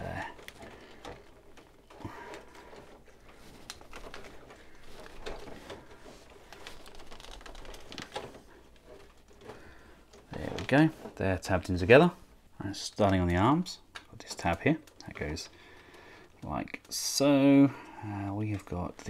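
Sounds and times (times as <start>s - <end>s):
plastic parts clicking and rubbing: 0.0s - 19.0s.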